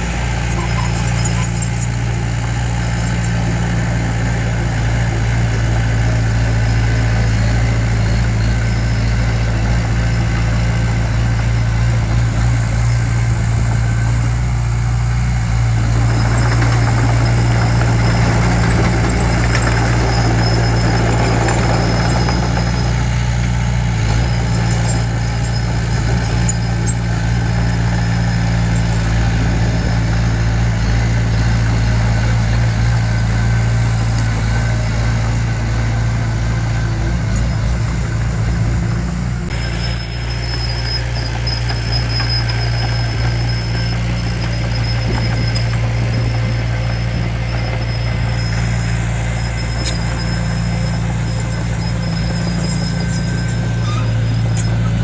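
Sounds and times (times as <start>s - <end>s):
diesel engine running: 0.0s - 55.0s
machinery clatter: 0.0s - 55.0s.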